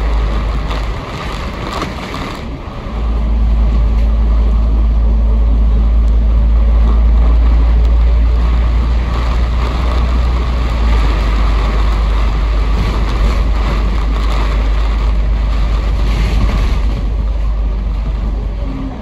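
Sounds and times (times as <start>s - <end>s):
bus engine rumble: 0.0s - 19.0s
road and tyre noise: 0.0s - 19.0s.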